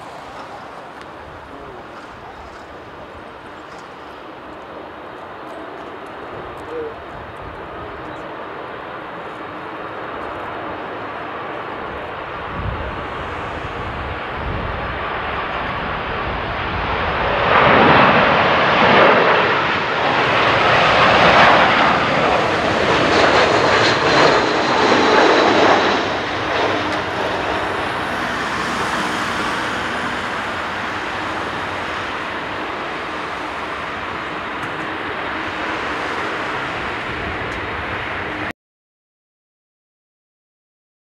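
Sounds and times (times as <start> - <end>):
jet plane passing low: 0.0 - 38.5.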